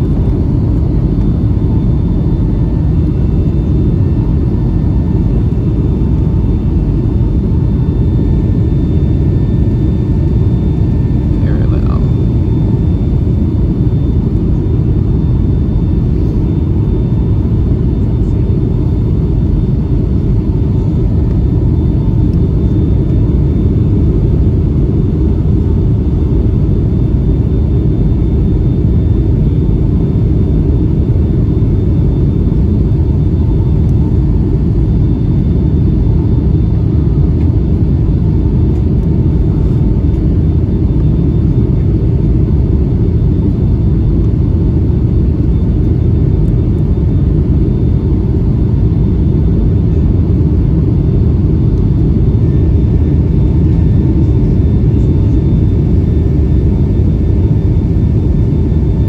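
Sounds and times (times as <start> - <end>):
aircraft cabin engine rumble: 0.0 - 59.0
faint high whine: 0.0 - 59.0.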